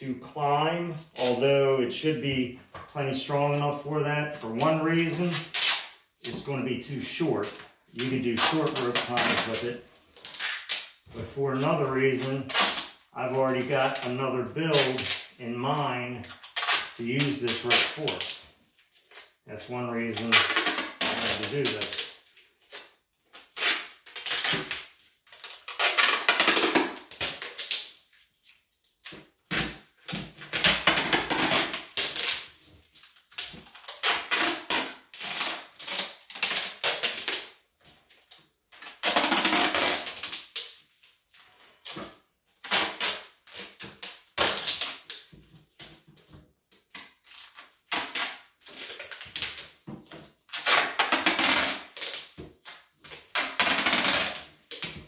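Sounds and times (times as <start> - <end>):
duct tape ripping off roll: 0.8 - 1.5, 3.2 - 28.3, 29.0 - 45.9, 46.8 - 55.0.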